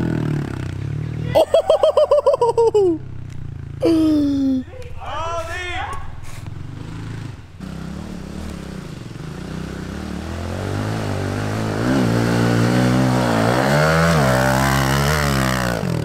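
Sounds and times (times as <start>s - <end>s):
pit bike engine revving: 0.0s - 4.6s, 6.1s - 16.0s.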